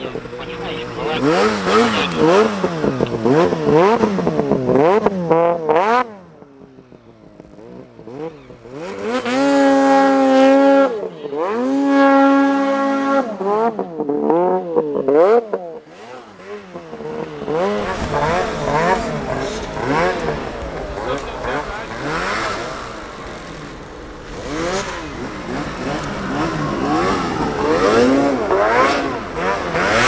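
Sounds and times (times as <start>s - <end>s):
snowmobile engines revving: 0.0s - 30.0s.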